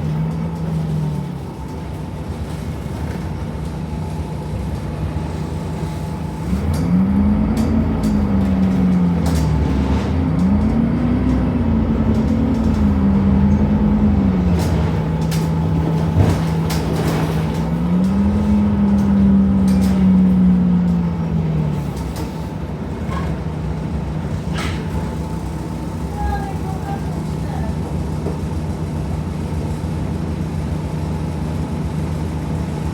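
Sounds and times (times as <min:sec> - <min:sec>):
bus engine whine: 0:00.0 - 0:32.9
low engine rumble: 0:00.0 - 0:32.9.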